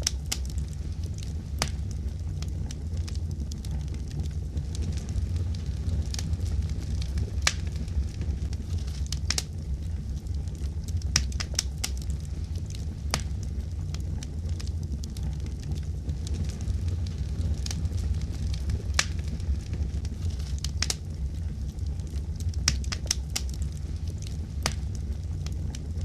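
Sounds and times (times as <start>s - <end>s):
fire crackling with pops: 0.0s - 26.0s
low rumble: 0.0s - 26.0s.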